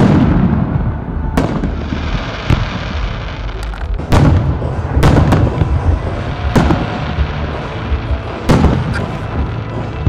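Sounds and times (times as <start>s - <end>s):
fireworks bursting bangs: 0.0s - 10.0s
steady low rumble: 0.0s - 10.0s.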